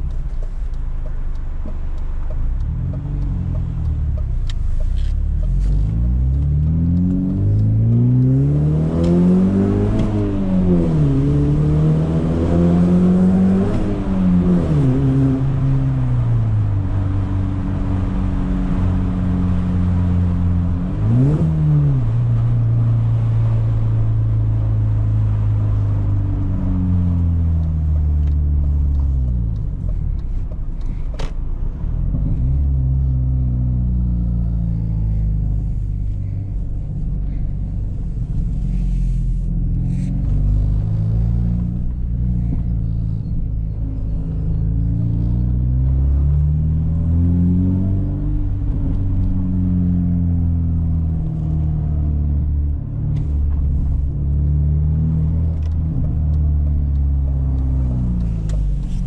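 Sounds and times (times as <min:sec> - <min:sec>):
car engine and loud exhaust: 0:00.0 - 0:59.0.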